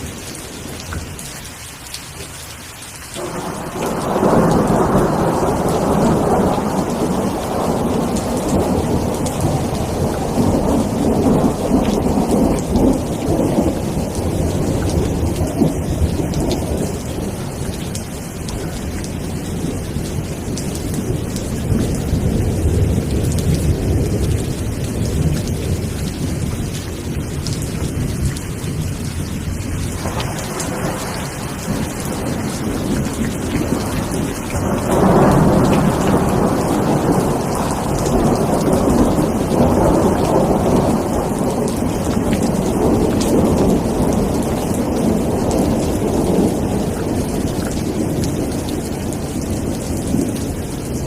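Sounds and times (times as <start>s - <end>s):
steady rain: 0.0s - 51.0s.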